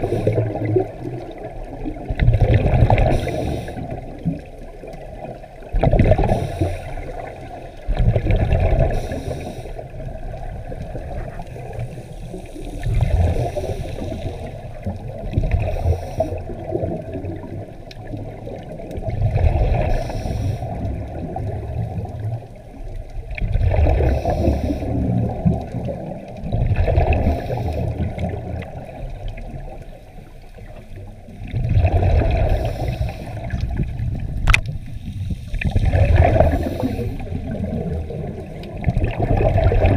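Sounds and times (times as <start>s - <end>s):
steady underwater background: 0.0s - 39.9s
underwater breath bubbles gurgling: 0.0s - 39.9s.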